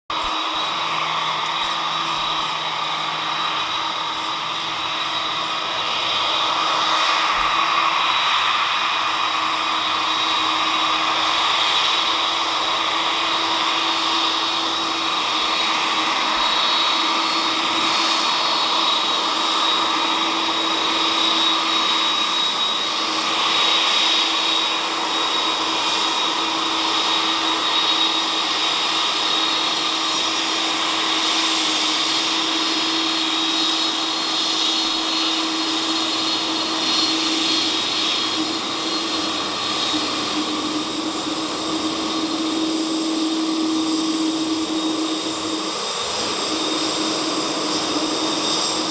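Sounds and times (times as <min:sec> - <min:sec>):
jet engines whining: 0:00.1 - 0:48.9.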